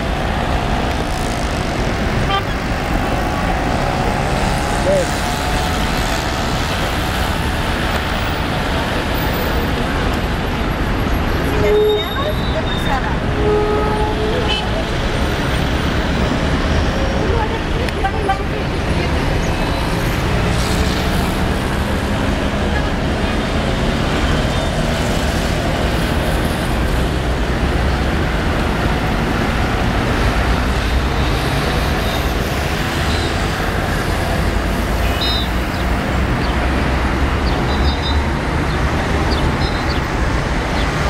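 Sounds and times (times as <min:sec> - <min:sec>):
car engines passing: 0:00.0 - 0:41.0.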